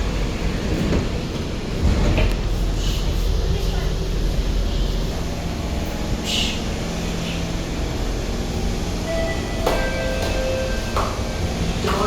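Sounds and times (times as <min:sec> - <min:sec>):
train equipment hum: 0:00.0 - 0:12.0.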